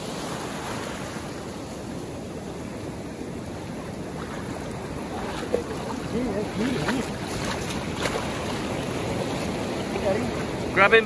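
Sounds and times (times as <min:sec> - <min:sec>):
surf washing over sand: 0:00.0 - 0:11.0.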